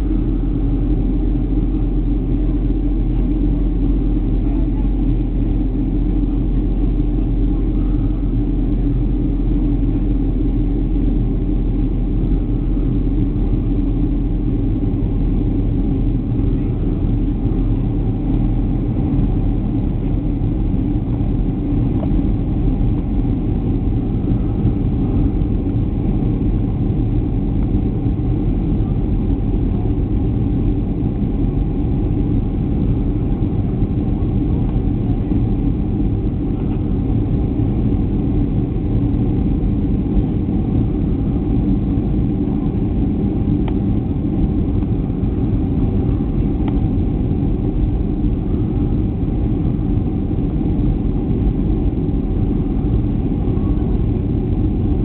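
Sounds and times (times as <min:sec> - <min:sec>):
jet engines and airflow rumble: 0:00.0 - 0:55.0
steady cabin hum: 0:00.0 - 0:55.0.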